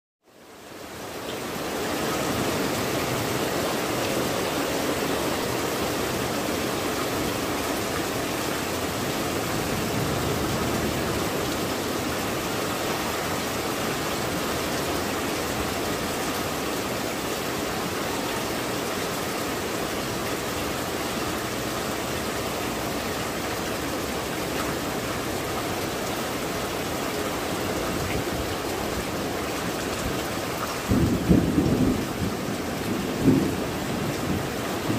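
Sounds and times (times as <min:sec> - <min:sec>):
heavy rain hissing: 0:00.4 - 0:34.9.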